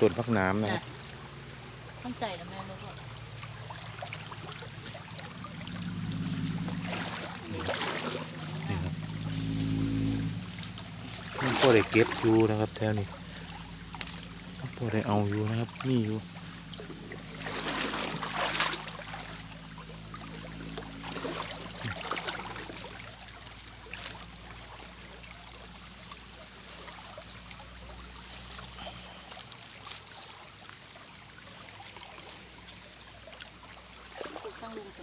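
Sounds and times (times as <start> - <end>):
shallow water sloshing: 0.0 - 35.0.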